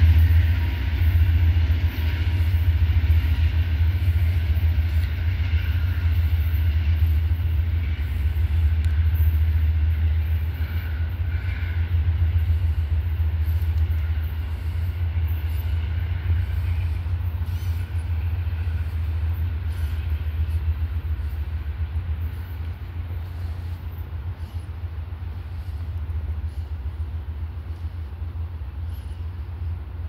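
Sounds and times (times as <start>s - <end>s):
train rolling low rumble: 0.0s - 30.0s.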